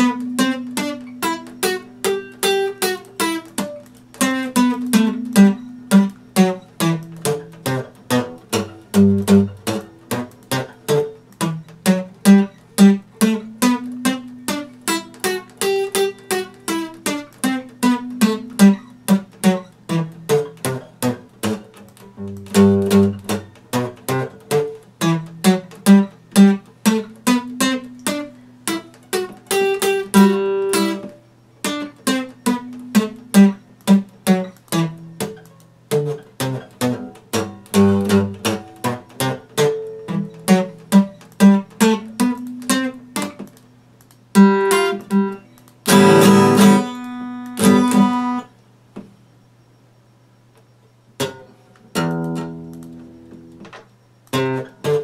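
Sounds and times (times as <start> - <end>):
strummed guitar chords: 0.0 - 43.6, 44.2 - 48.6, 51.2 - 55.0
acoustic guitar picking: 0.0 - 49.2, 50.4 - 55.0.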